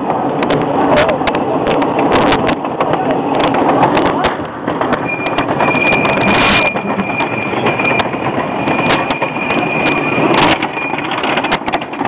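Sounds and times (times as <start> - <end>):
roller coaster clattering on track: 0.0 - 12.0
wind noise on microphone: 0.0 - 12.0.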